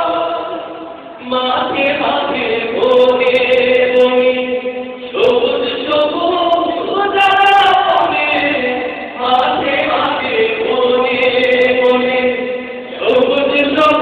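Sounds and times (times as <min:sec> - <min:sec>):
men singing together: 0:00.0 - 0:14.0.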